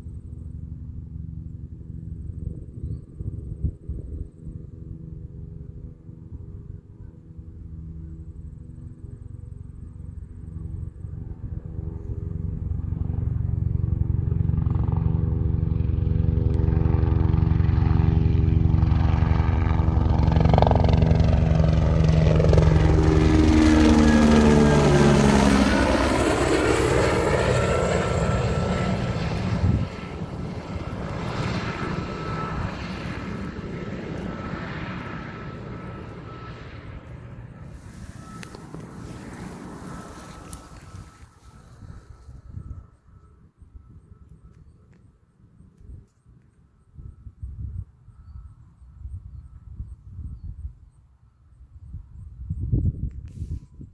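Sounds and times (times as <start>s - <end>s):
helicopter rotor drone: 0.0s - 53.9s.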